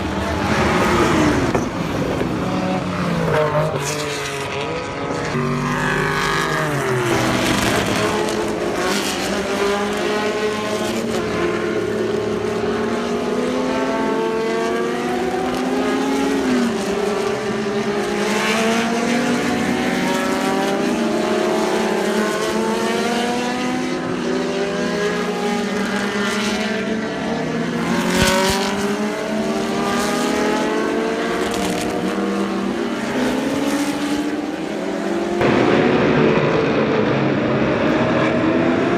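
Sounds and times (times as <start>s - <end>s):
race car engines passing: 0.0s - 38.9s.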